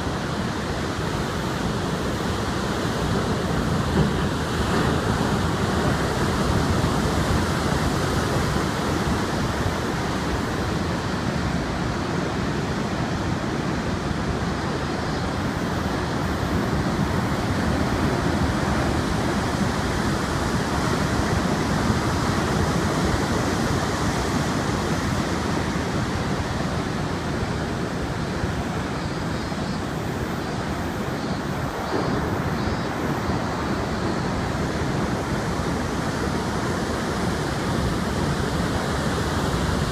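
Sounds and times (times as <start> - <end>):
heavy surf pounding shore: 0.0 - 39.9
strong wind: 0.0 - 39.9.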